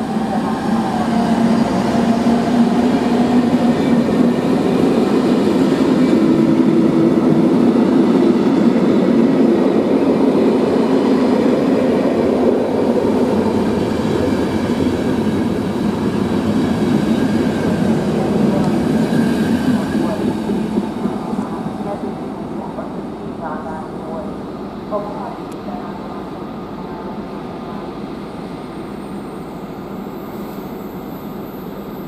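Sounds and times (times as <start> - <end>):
electric locomotive rumbling: 0.0 - 32.0.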